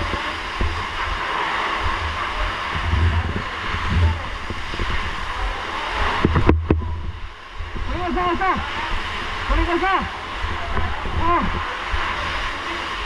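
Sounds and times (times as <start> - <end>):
faint voices: 0.0 - 13.0
rumbling buffets on microphone: 0.0 - 13.0
steady rushing noise: 0.0 - 13.0.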